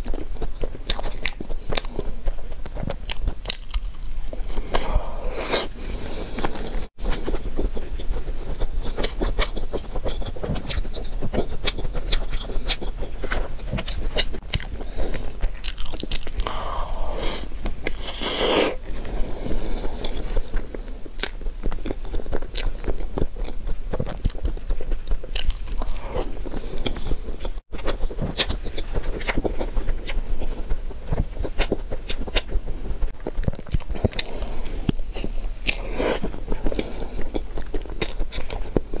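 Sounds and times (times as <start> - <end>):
chewing and mouth sounds: 0.0 - 39.0.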